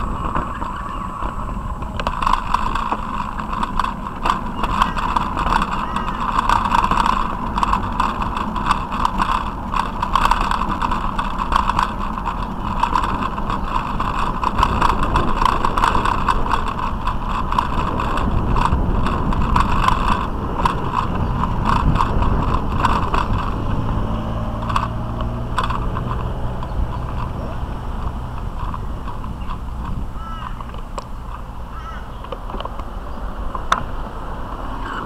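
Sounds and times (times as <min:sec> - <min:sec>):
bicycle rattling over bricks: 0:00.0 - 0:35.0
bicycle tyres rolling: 0:00.0 - 0:35.0.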